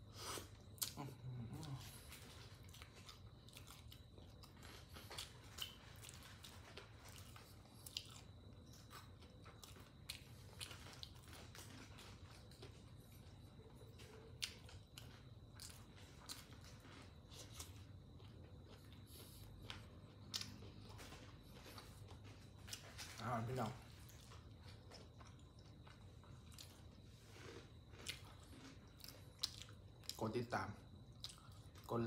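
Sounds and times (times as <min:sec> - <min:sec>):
person chewing crispy food: 0:00.1 - 0:32.0.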